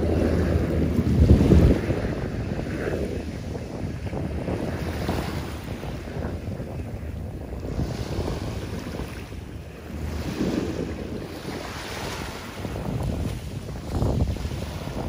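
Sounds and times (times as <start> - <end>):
small waves breaking on beach: 0.0 - 15.0
wind rumbling on microphone: 0.0 - 15.0.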